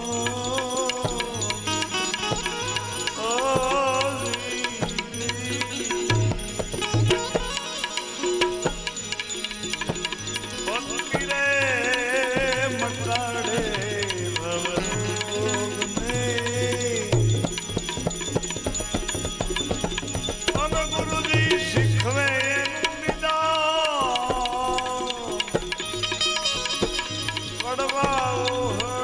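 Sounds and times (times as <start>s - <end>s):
hand drum beating: 0.0s - 29.0s
jingling percussion: 0.0s - 29.0s
wavering melody: 0.0s - 29.0s.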